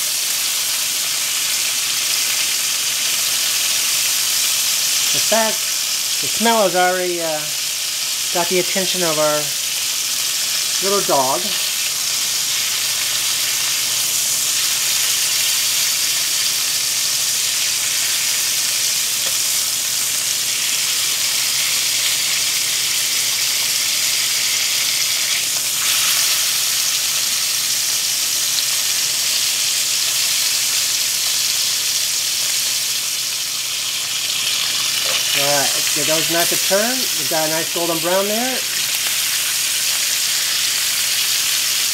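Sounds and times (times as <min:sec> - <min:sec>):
meat sizzling in a skillet: 0:00.0 - 0:41.9.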